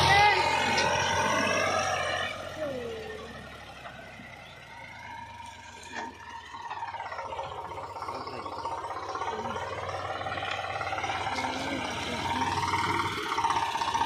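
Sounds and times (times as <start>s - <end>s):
tractor diesel engine chugging: 0.0s - 14.0s.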